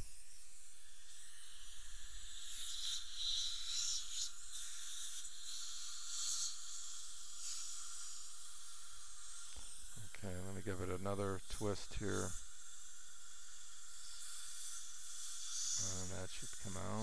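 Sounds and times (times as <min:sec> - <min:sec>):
dental suction hissing: 0:00.0 - 0:17.0.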